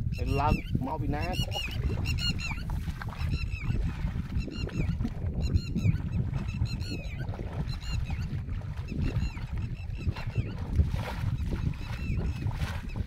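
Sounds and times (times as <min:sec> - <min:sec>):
feet splashing through muddy water: 0:01.2 - 0:13.0.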